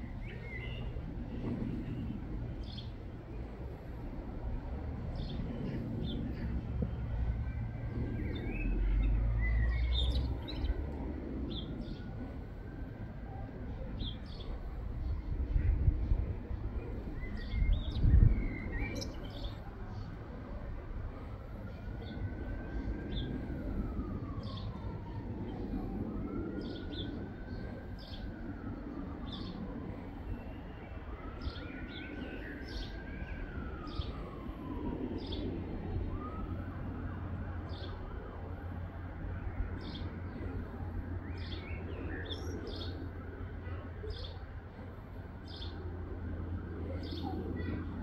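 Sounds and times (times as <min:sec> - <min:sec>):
distant siren wailing: 0:00.0 - 0:48.0
steady low rumble: 0:00.0 - 0:48.0.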